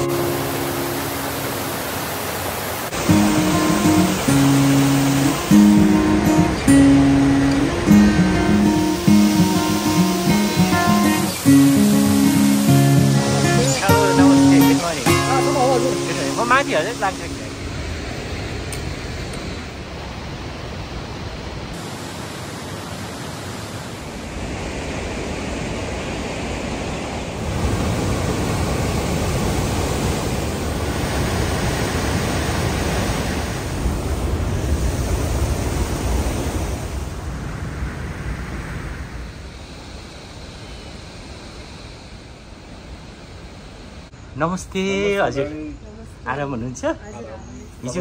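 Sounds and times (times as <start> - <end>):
river rushing over boulders: 0.0 - 44.1.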